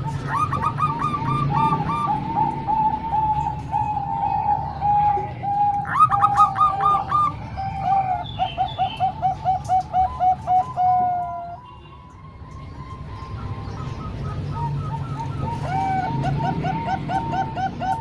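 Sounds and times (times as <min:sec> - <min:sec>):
doves cooing: 0:00.0 - 0:11.7, 0:12.6 - 0:18.0.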